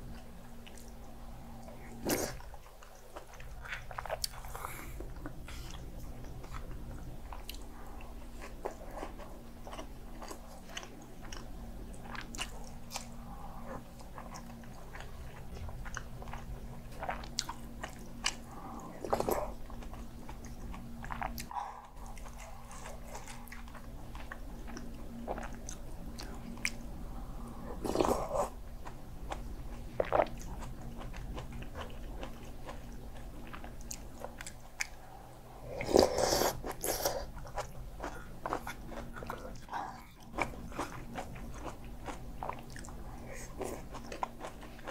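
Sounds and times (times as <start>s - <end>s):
faint low hum: 0.0s - 44.9s
close chewing and biting: 1.8s - 26.8s, 27.6s - 35.0s, 35.8s - 44.9s.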